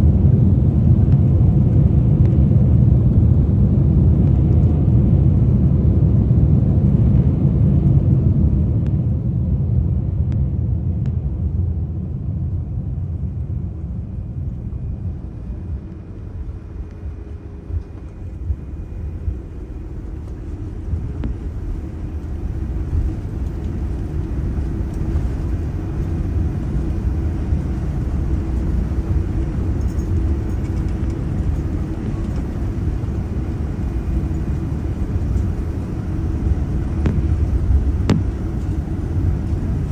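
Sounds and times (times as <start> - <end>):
low rumble inside aircraft cabin: 0.0 - 39.9.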